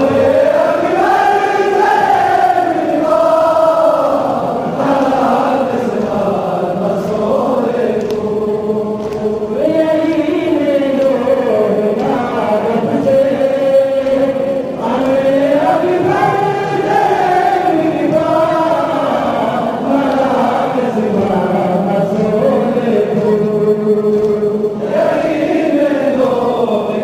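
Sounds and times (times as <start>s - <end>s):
men chanting a mourning lament: 0.0s - 27.0s.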